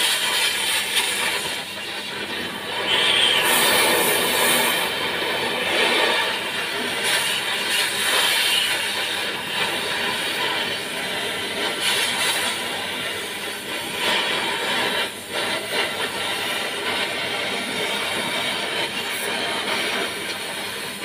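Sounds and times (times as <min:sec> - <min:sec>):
welding arc sizzling: 0:00.0 - 0:21.0.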